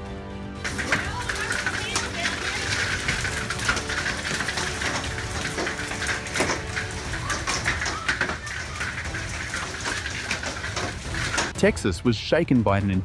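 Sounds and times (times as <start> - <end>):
heavy rain falling: 0.6 - 11.6.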